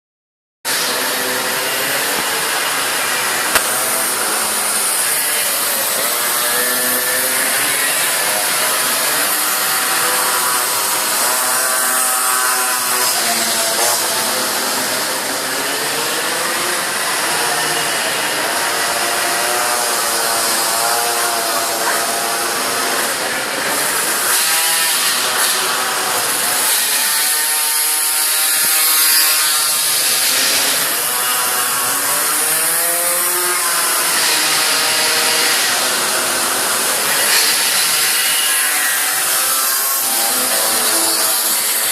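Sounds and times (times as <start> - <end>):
minibike engines racing: 0.7 - 41.9.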